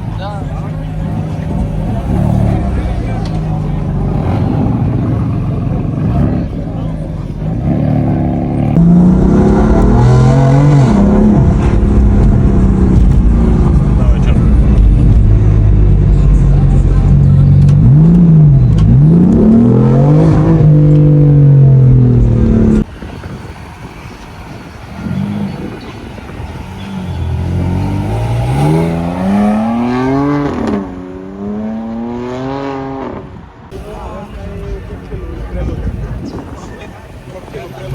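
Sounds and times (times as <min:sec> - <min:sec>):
sports car engine accelerating: 0:00.0 - 0:22.9, 0:25.0 - 0:37.9.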